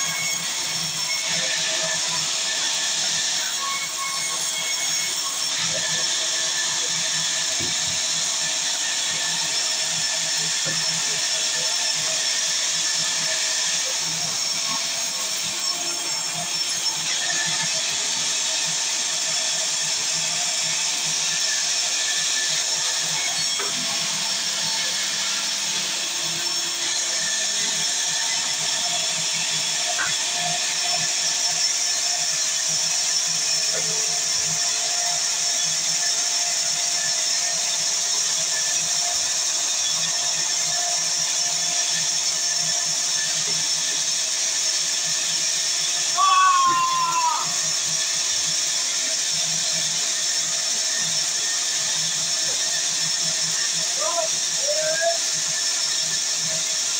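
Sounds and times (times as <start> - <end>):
sawmill saw whining: 0.0 - 56.9.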